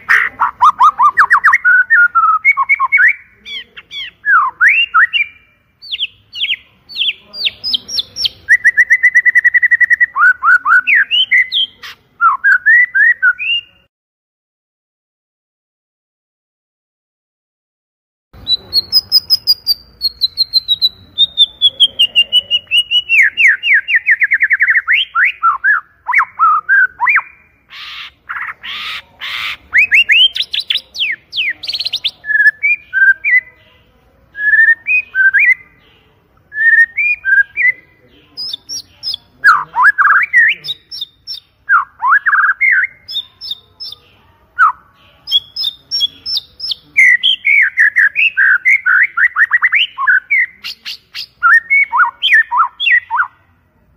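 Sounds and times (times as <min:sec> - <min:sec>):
bird song with whistled phrases: 0:00.0 - 0:13.9, 0:18.4 - 0:33.6, 0:34.3 - 0:53.5.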